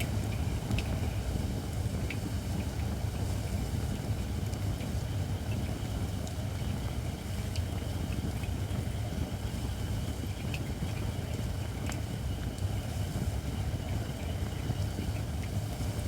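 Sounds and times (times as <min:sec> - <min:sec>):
low rumble of flame: 0:00.0 - 0:16.0.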